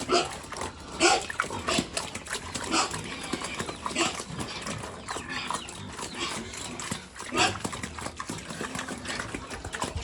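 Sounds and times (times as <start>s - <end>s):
pigs squealing and grunting: 0.0s - 10.0s.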